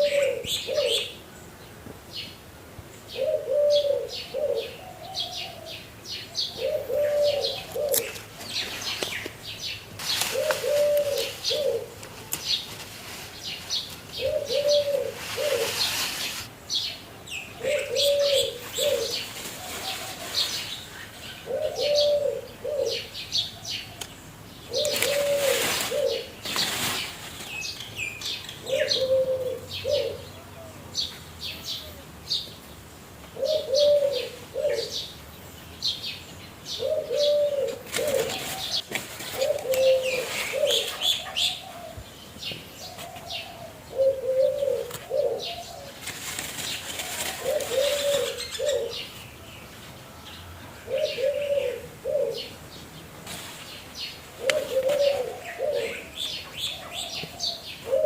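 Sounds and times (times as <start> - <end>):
doves cooing: 0.0 - 1.3, 3.1 - 16.5, 17.6 - 24.1, 24.7 - 27.2, 28.5 - 31.0, 33.3 - 35.2, 36.7 - 49.2, 50.8 - 58.0
small birds chirping: 0.0 - 58.0.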